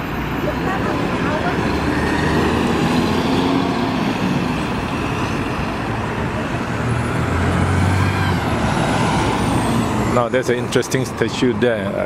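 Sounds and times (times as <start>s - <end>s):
bus engine passing: 0.0s - 12.0s
street traffic noise: 0.0s - 12.0s.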